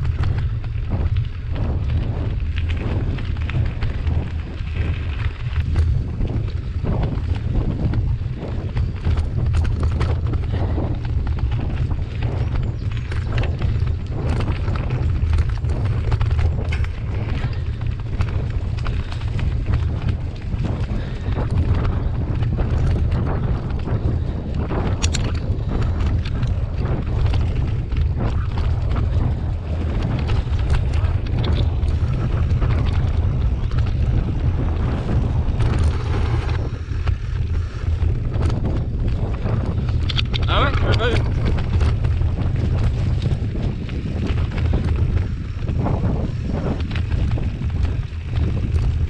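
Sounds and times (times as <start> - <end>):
bike clattering on rough trail: 0.0 - 49.0
wind rumble on microphone: 0.0 - 49.0.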